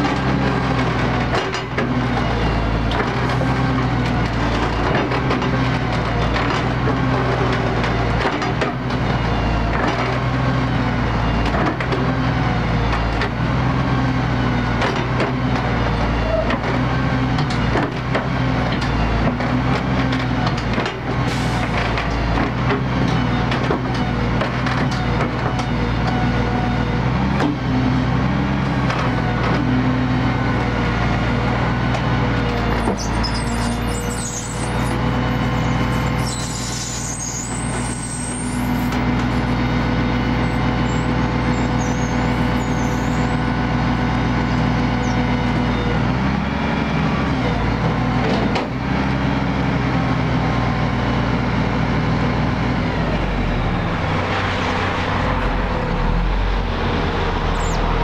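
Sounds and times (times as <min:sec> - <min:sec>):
truck engine and hydraulics: 0:00.0 - 0:58.0.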